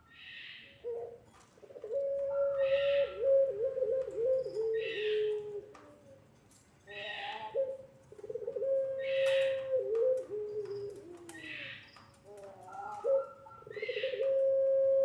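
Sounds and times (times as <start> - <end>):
turtle dove cooing: 0.0 - 6.2, 6.9 - 15.0.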